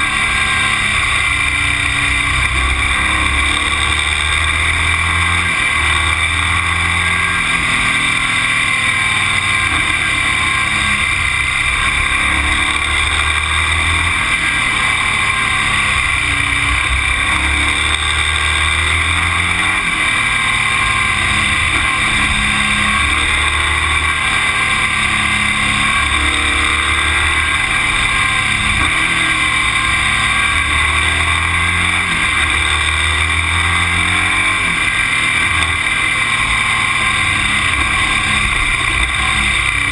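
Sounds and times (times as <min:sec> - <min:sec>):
vehicle engine: 0:00.0 - 0:39.9.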